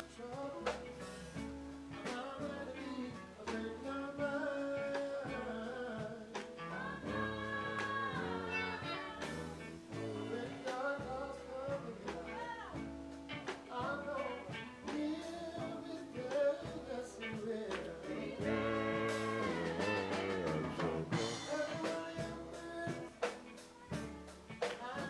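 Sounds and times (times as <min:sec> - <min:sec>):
drums: 0:00.0 - 0:25.0
gospel church band: 0:00.0 - 0:25.0
person singing: 0:00.0 - 0:25.0.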